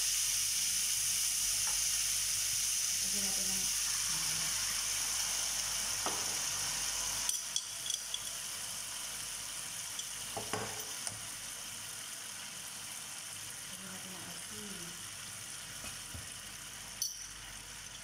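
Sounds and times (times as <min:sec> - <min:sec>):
sauce sizzling in a frying pan: 0:00.0 - 0:18.0.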